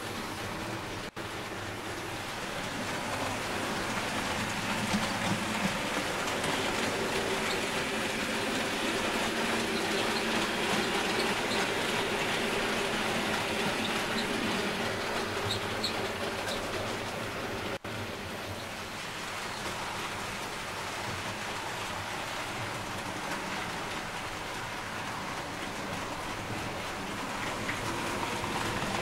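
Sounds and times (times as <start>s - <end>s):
model train wheels rumbling on rail: 0.0s - 29.0s.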